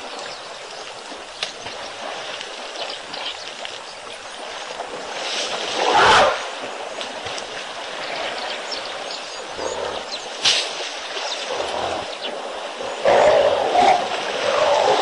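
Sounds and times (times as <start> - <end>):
mud and water sloshing: 0.0 - 15.0.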